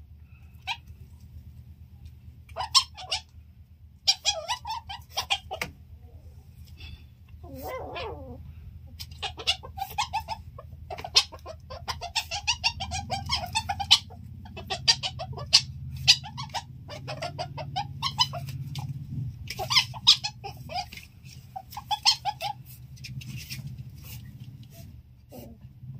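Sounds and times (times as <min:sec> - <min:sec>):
animals clucking and chattering: 0:00.0 - 0:25.9
low steady rumble: 0:00.0 - 0:25.9.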